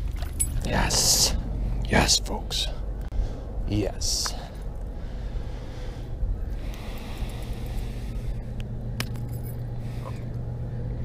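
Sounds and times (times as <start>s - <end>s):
low background rumble: 0.0s - 11.0s
low hum: 0.0s - 11.0s.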